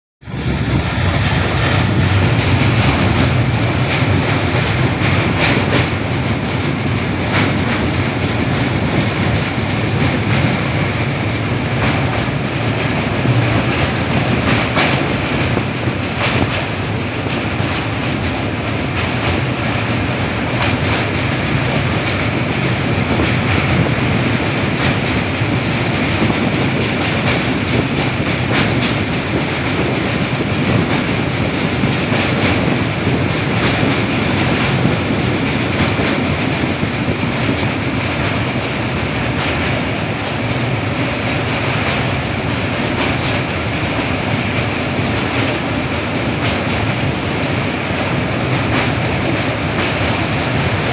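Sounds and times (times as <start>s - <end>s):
train wheels rumbling on rail: 0.2s - 50.9s.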